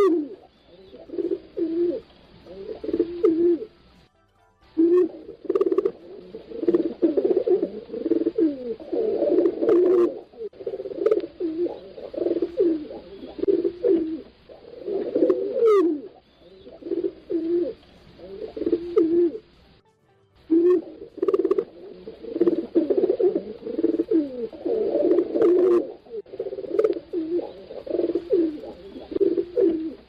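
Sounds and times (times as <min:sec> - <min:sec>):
pigeons cooing: 0:00.0 - 0:03.7, 0:04.8 - 0:19.5, 0:20.5 - 0:30.0.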